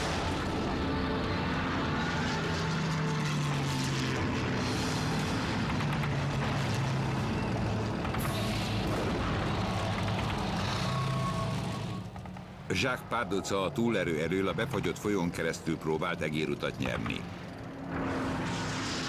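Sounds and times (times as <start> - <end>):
tank engine humming: 0.0 - 19.0.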